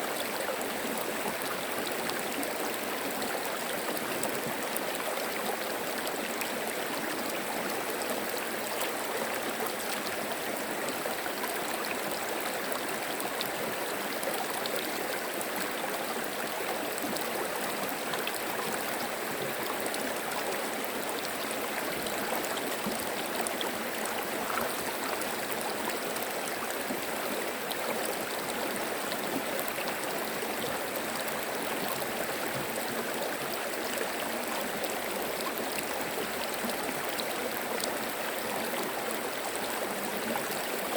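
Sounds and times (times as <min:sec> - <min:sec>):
stream babbling and trickling: 0:00.0 - 0:40.9.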